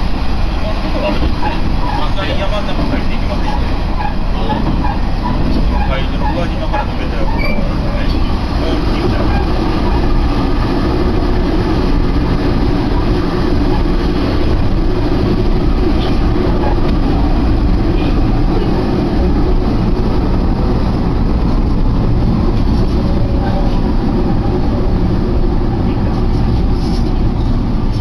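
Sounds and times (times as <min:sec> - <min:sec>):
diesel railcar running drone: 0:00.0 - 0:28.0.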